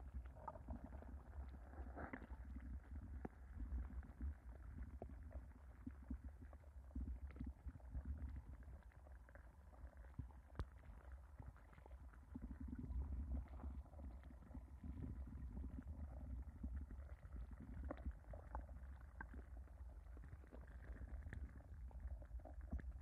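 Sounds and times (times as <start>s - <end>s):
muffled underwater rumble: 0.0s - 23.0s.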